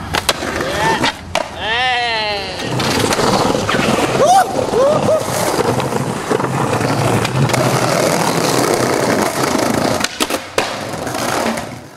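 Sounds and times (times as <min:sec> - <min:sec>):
skateboard clacks: 0:00.0 - 0:01.7, 0:02.6 - 0:11.9
skateboard wheels rolling on pavement: 0:00.0 - 0:11.9.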